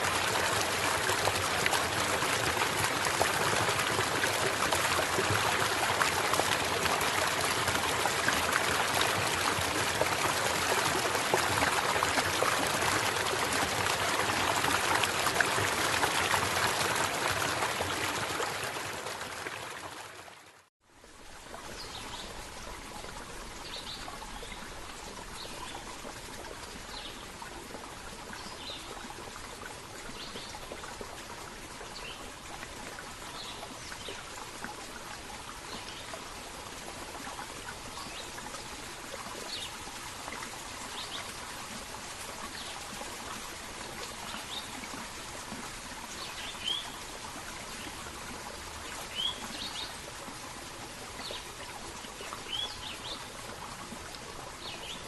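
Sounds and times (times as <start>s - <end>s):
stream water rushing: 0.0s - 20.6s, 21.2s - 55.0s
quiet steady water: 0.0s - 55.0s.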